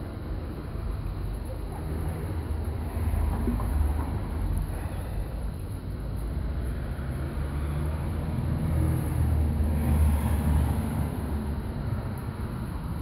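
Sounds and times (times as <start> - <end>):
street background noise: 0.0 - 13.0.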